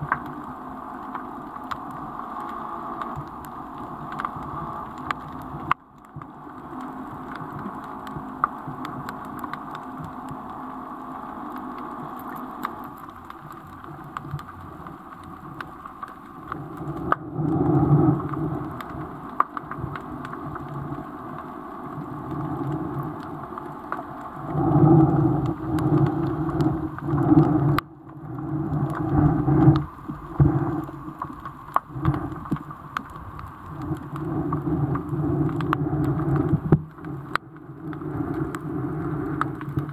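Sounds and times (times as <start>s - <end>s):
muffled underwater rumbling: 0.0s - 39.9s
small clicks: 0.0s - 39.9s.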